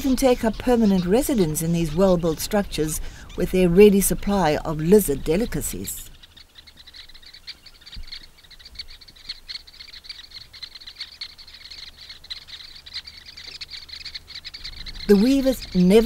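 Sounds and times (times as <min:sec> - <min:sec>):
flock of birds chirping: 0:00.0 - 0:16.0.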